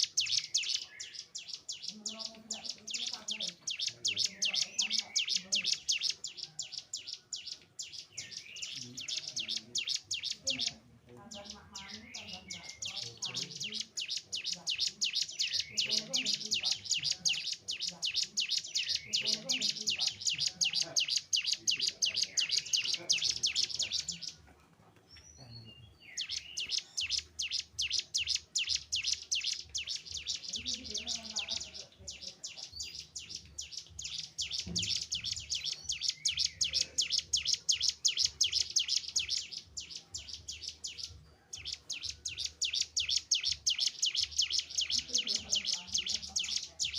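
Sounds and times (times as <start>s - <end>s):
bird singing rapid high notes: 0.0s - 24.4s, 25.2s - 46.9s.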